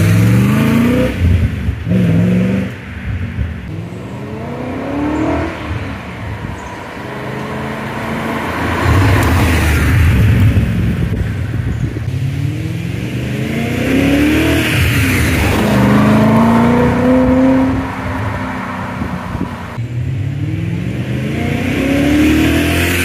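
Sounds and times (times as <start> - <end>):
car exhaust revving: 0.0 - 23.0.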